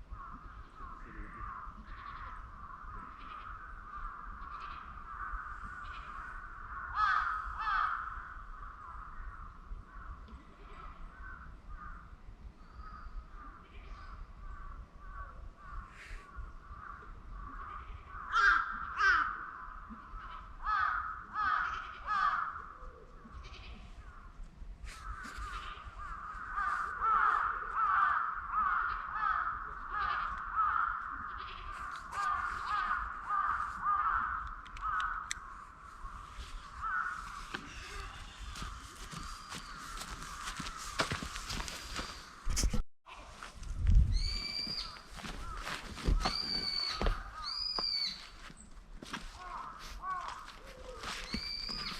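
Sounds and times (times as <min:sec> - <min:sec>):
crows cawing: 0:00.1 - 0:12.1, 0:12.8 - 0:42.5, 0:44.2 - 0:51.9.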